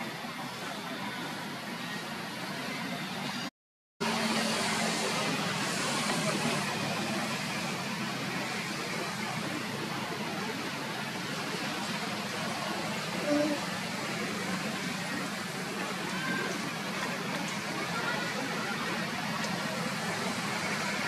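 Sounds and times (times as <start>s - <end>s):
outdoor rushing hiss: 4.0s - 21.0s.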